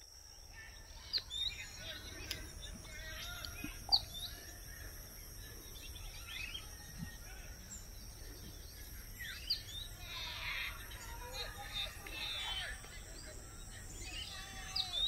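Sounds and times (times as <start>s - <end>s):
high background drone: 0.0s - 15.0s
bird chirps and calls: 0.4s - 15.0s.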